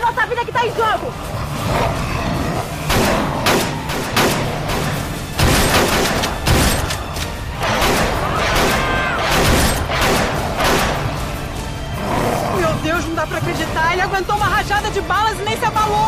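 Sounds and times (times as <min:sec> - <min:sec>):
dramatic background music: 0:00.0 - 0:16.0.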